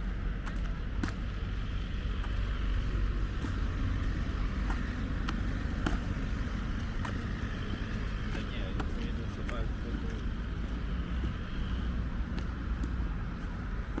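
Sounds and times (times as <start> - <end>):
car traffic rumble: 0.0 - 14.0.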